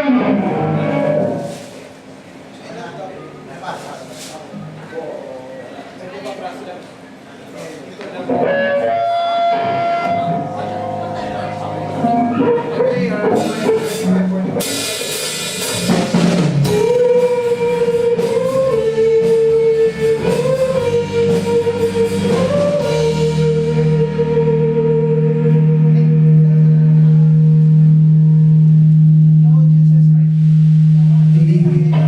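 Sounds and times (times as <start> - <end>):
live band playing: 0.0 - 2.0, 8.2 - 32.0.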